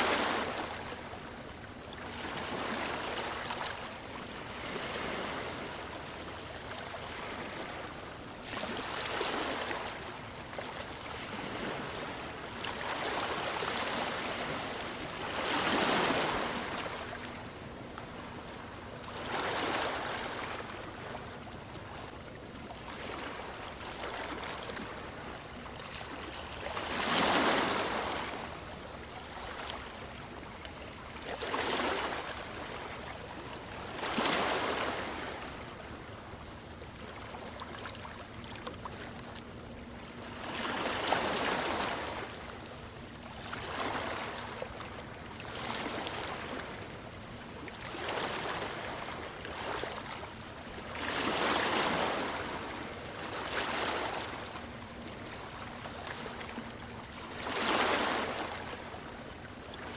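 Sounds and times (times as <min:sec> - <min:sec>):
ocean waves breaking on beach: 0:00.0 - 0:22.0, 0:22.8 - 0:36.6, 0:40.2 - 0:59.9.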